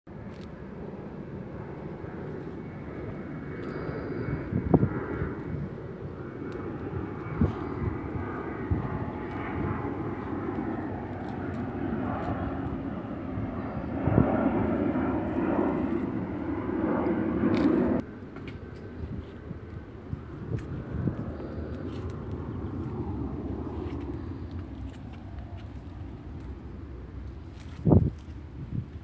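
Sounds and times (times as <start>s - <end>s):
aircraft rumbling overhead: 0.1s - 29.0s.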